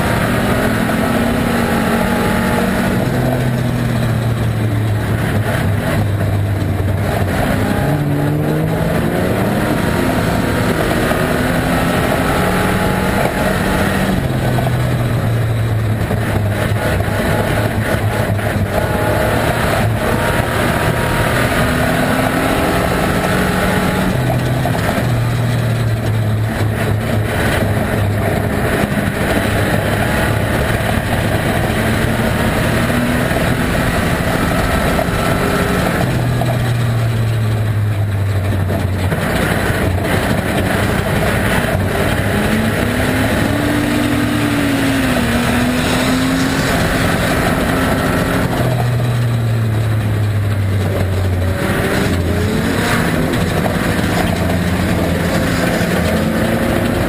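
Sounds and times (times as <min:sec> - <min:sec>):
car engine revving hard: 0:00.0 - 0:57.0
road and body rattle: 0:00.0 - 0:57.0.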